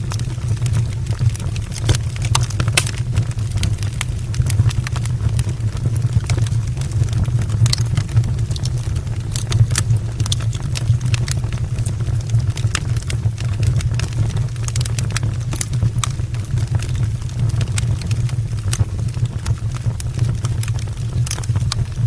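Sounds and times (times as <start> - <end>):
logs crackling and popping: 0.0 - 22.0
wood fire rumbling: 0.0 - 22.0.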